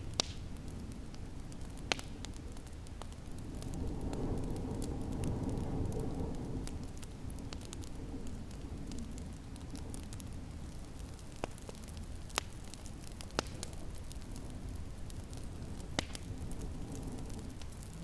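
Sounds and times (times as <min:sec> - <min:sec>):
low rumble and hiss: 0:00.0 - 0:18.0
wood fire crackling and popping: 0:00.0 - 0:18.0.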